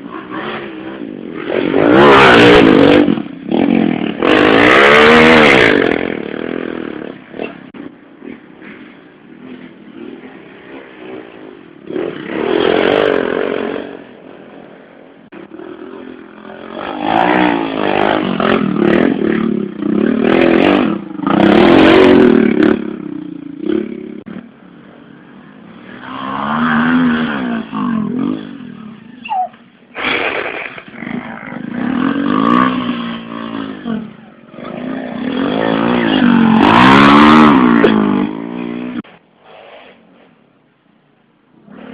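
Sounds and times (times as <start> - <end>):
small motorcycles racing past: 0.0 - 7.6, 8.2 - 14.7, 15.4 - 24.0, 25.0 - 39.1.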